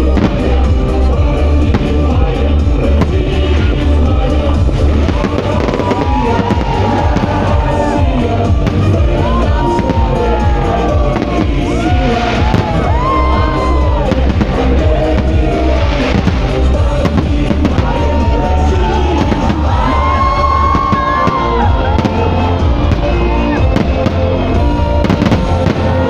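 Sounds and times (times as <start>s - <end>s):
fireworks bursting and crackling: 0.0s - 26.0s
loud music with heavy beat: 0.0s - 26.0s.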